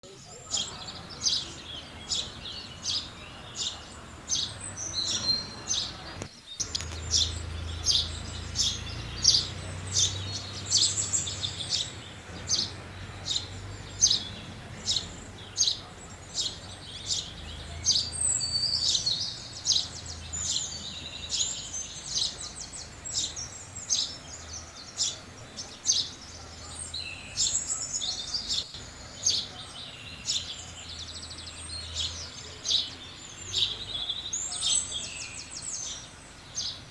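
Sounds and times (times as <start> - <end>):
sparrows chirping: 0.0 - 36.9.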